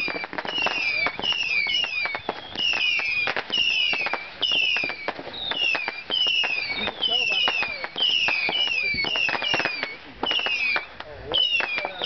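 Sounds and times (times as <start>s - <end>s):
fireworks crackling pops: 0.0s - 12.0s
whistling fireworks: 0.0s - 12.0s.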